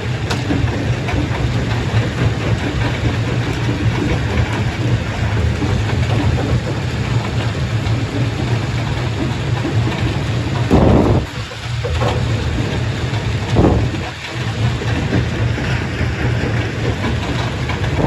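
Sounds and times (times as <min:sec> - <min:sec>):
stone-crushing machinery drone: 0:00.0 - 0:18.0.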